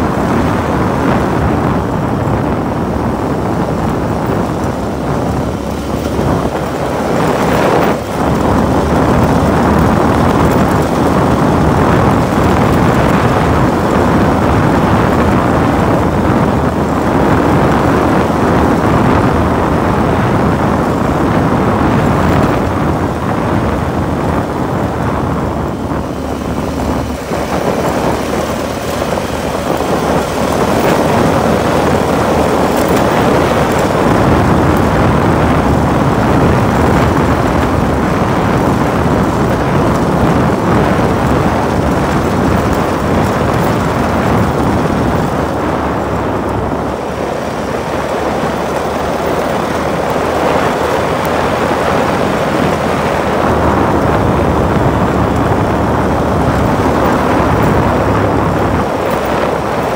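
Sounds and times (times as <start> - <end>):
vehicle engine: 0.0 - 59.9
wind on microphone: 0.0 - 59.9
tyres crunching over gravel: 1.7 - 59.9.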